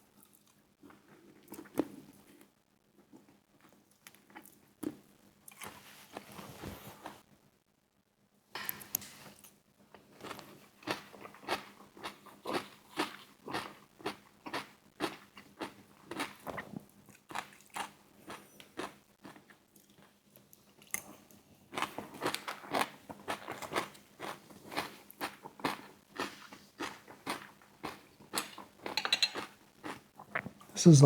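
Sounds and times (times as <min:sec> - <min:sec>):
crunching and chewing fried chicken: 0:00.0 - 0:06.2, 0:09.9 - 0:30.7.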